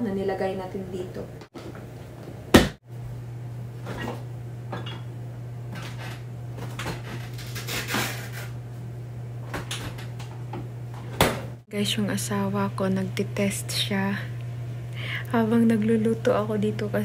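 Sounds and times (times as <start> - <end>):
refrigerator hum: 0.0 - 17.0.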